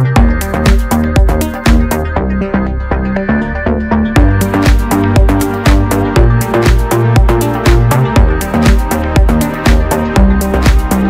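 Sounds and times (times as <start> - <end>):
background music with drum beat: 0.0 - 2.1, 4.2 - 11.0.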